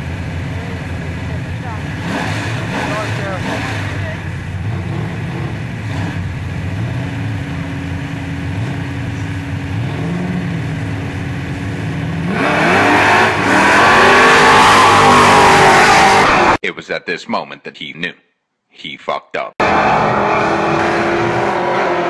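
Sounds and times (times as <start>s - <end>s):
car engine idling and revving: 0.0s - 16.6s, 19.6s - 22.0s.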